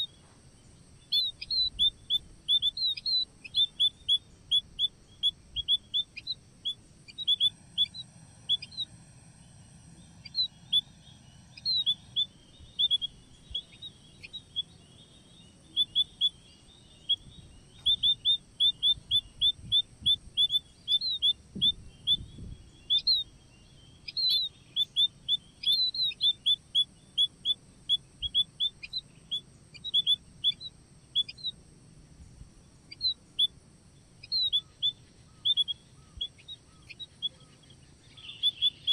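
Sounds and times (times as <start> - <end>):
birds chirping rapidly: 0.0 - 38.9
faint steady high hiss: 0.0 - 38.9.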